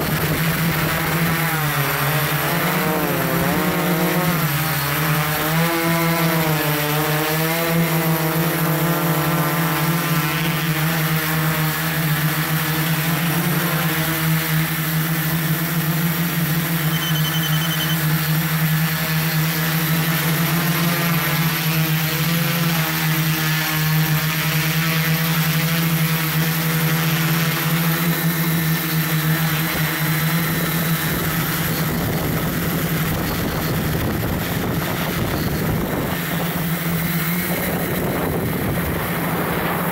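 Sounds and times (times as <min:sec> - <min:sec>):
drone propellers humming: 0:00.0 - 0:39.9.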